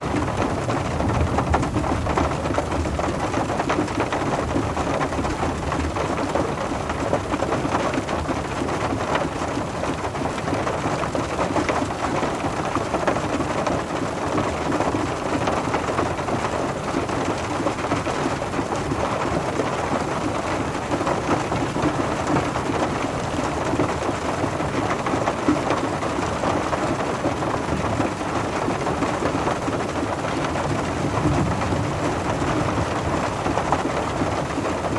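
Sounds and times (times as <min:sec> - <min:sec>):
rain pattering on a car: 0:00.0 - 0:34.9.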